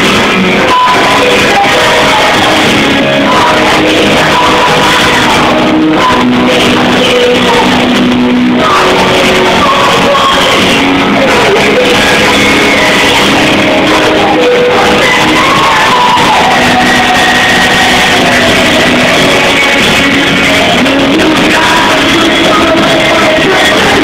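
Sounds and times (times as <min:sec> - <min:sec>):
live pop-rock band with guitar: 0:00.0 - 0:24.0
woman singing into microphone: 0:00.0 - 0:24.0.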